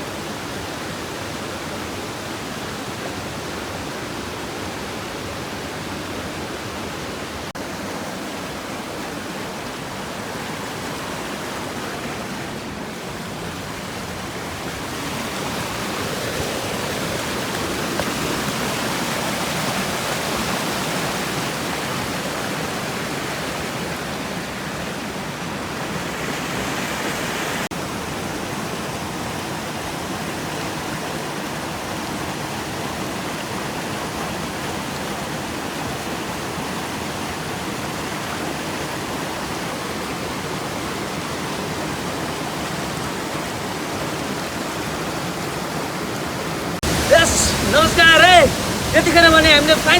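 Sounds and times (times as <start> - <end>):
rushing stream water: 0.0 - 49.9.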